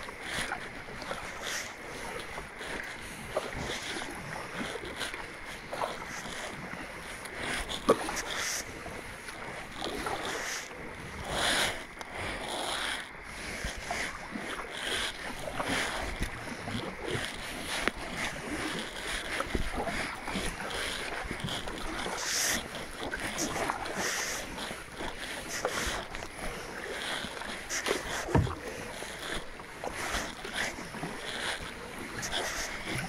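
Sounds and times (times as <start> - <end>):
paddle splashing water: 0.0 - 33.0.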